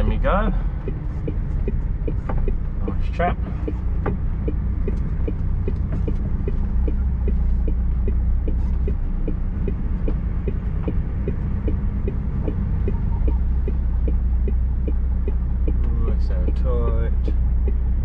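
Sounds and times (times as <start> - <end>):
diesel engine running: 0.0 - 18.0
turn signal ticking: 0.0 - 18.0.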